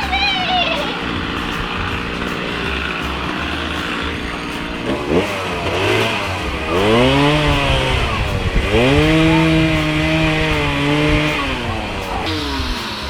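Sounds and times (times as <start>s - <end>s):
chainsaw engine idling and revving: 0.0s - 13.0s.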